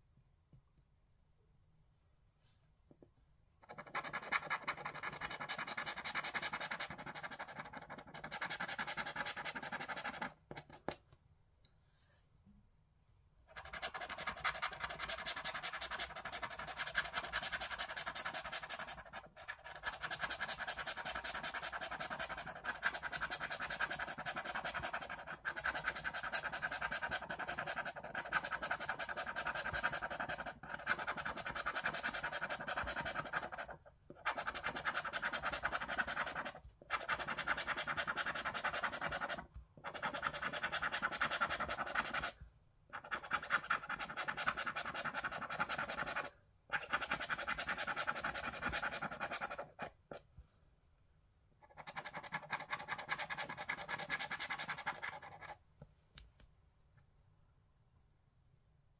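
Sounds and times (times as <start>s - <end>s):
scraper rasping scratch card: 3.6s - 10.9s, 13.5s - 50.2s, 51.6s - 55.6s.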